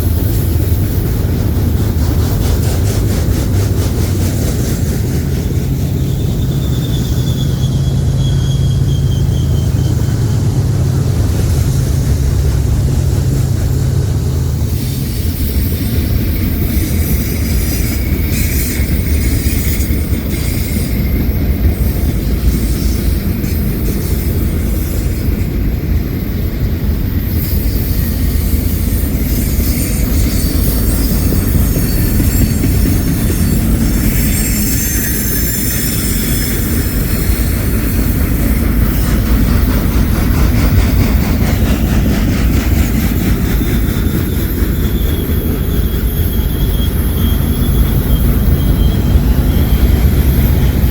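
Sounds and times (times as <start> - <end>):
train wheels rumbling on rails: 0.0 - 50.9
high-pitched wheel squeal: 5.2 - 10.7, 14.6 - 50.9.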